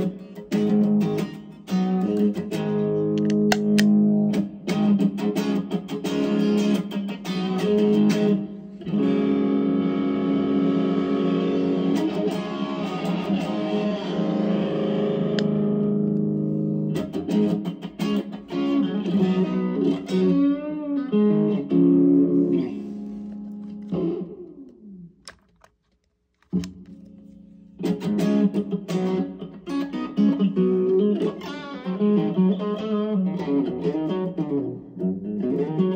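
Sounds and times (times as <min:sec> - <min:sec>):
overdriven electric guitar: 0:00.0 - 0:25.7, 0:26.4 - 0:35.9.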